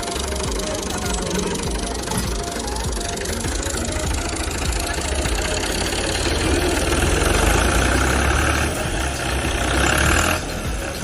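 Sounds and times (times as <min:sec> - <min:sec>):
diesel tractor engine running hard: 0:00.0 - 0:11.0.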